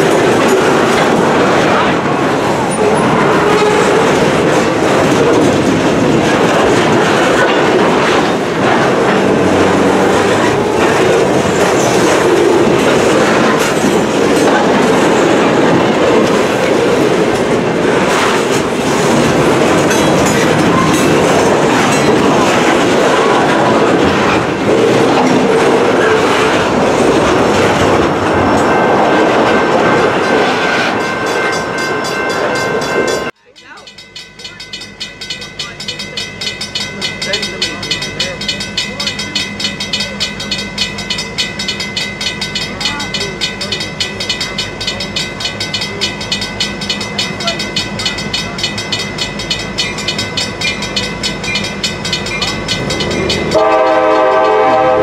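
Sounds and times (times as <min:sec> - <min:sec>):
freight cars clattering over rail joints: 0:00.0 - 0:55.0
grade-crossing bell ringing: 0:00.0 - 0:55.0.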